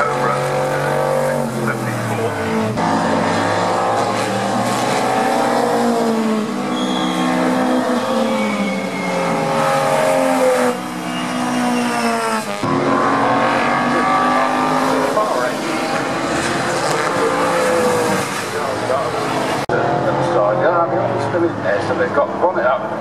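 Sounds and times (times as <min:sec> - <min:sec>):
race car engines: 0:00.0 - 0:23.0.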